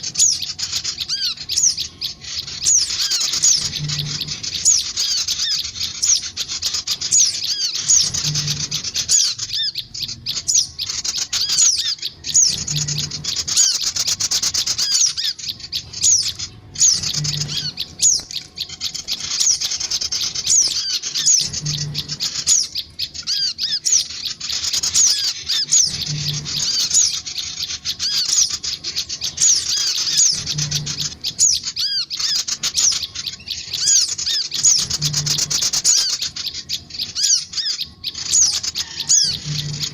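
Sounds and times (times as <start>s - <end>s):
birds chirping rapidly: 0.0s - 39.9s.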